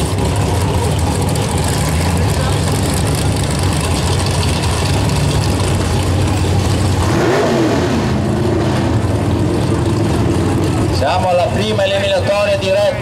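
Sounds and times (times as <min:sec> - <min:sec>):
racing car engines idling: 0:00.0 - 0:13.0.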